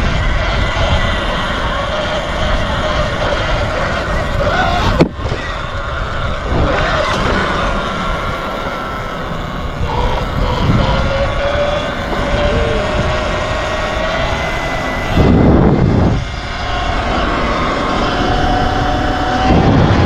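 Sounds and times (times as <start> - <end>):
wavering motor whine: 0.0 - 20.0
wind rumble on microphone: 0.0 - 20.0.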